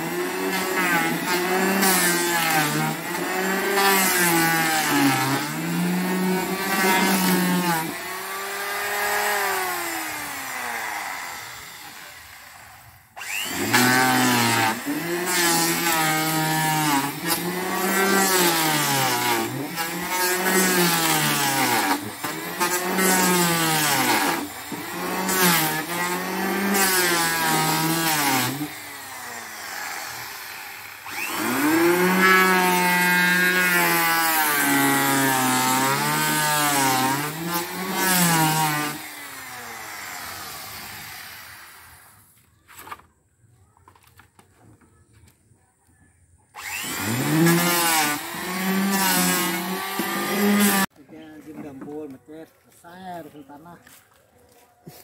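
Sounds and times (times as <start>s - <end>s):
electric hand planer cutting wood: 0.0s - 42.2s, 46.6s - 50.9s.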